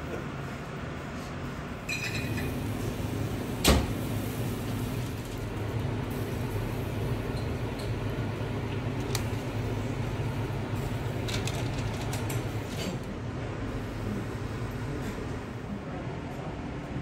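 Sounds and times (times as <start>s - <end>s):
kitchen ventilation hum: 0.0s - 17.0s.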